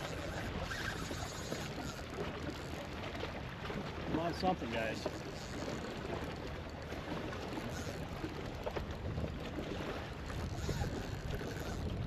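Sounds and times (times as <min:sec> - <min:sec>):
waves lapping against hull: 0:00.0 - 0:12.0
wind: 0:00.0 - 0:12.0.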